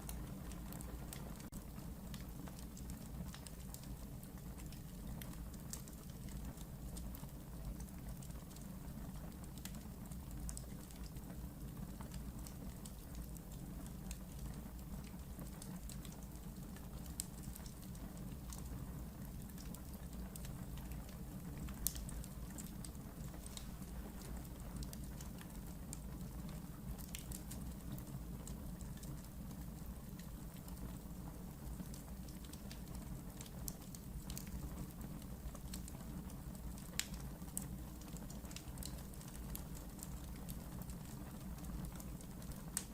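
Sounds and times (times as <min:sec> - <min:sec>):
fire crackling in fireplace: 0:00.0 - 0:42.9.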